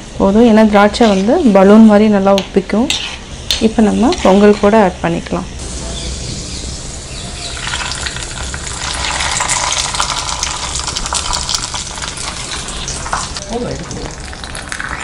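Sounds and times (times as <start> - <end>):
hot ghee sizzling and crackling: 0.2 - 15.0.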